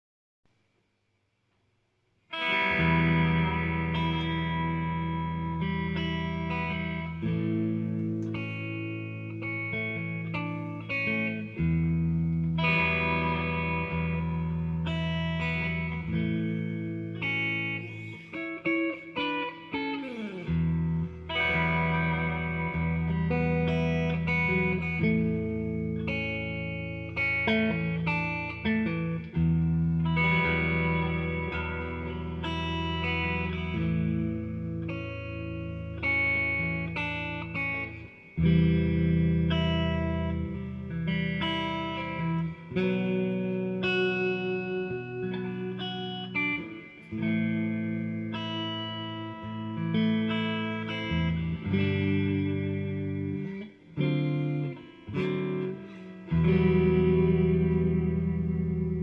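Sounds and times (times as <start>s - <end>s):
electric guitar lead: 2.3s - 59.0s.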